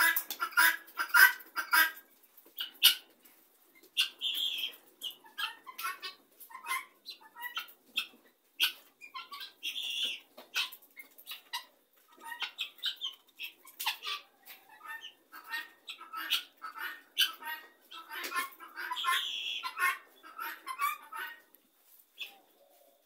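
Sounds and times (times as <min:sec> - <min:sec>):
guineafowl calling: 0:00.0 - 0:02.0, 0:02.6 - 0:03.1, 0:03.9 - 0:21.5, 0:22.2 - 0:23.0.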